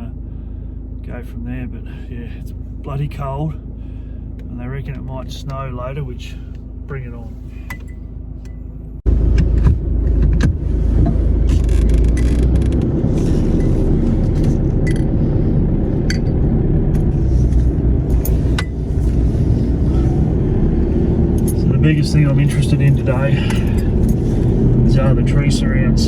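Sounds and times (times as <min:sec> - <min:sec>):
vehicle rumble: 0:00.0 - 0:26.0.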